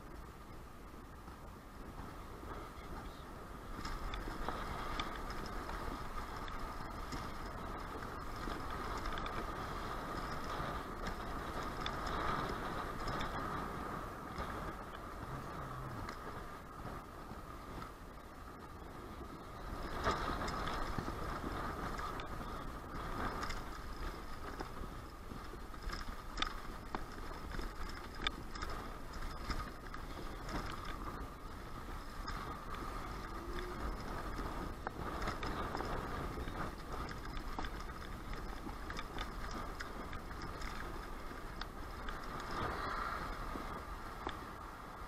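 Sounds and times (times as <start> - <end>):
traffic noise: 0.0 - 45.0
wind rumbling on microphone: 0.0 - 45.0
faint clicks: 3.8 - 16.4, 19.7 - 44.5.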